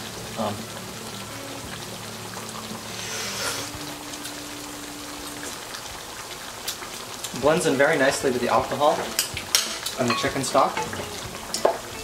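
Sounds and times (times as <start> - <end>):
sauce bubbling and sizzling: 0.0 - 12.0.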